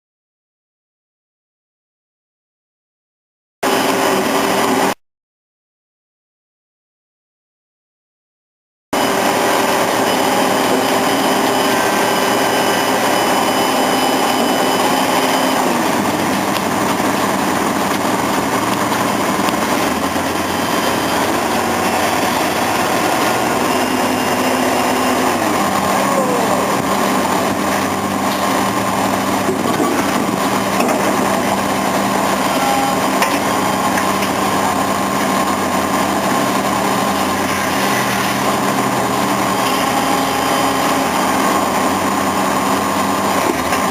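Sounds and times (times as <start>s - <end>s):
pile-driving rig engine running: 3.6s - 5.0s, 9.0s - 43.9s.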